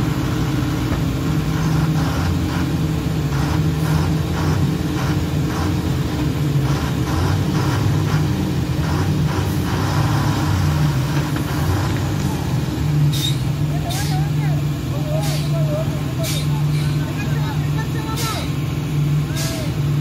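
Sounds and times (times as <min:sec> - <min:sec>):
heavy diesel truck engine: 0:00.0 - 0:20.0.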